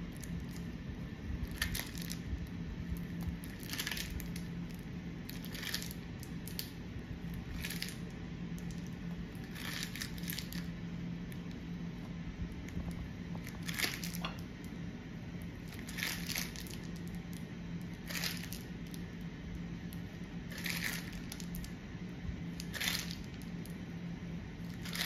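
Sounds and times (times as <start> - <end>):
piping bag squishing dough: 0.0 - 25.0.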